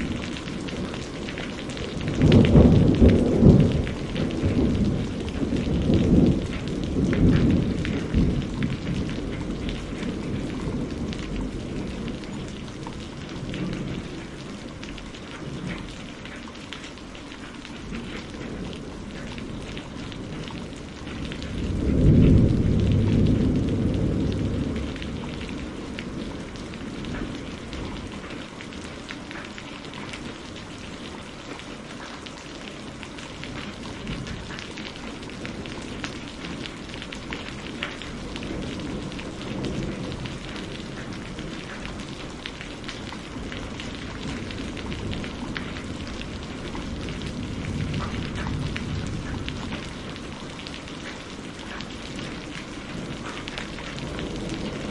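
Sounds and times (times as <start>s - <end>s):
thunder rumbling: 0.0s - 32.0s, 32.7s - 54.9s
rain with drops ticking: 0.0s - 54.9s.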